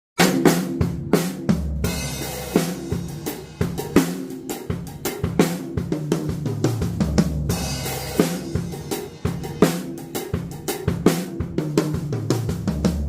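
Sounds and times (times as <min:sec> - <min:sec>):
drum kit groove: 0:00.2 - 0:13.0.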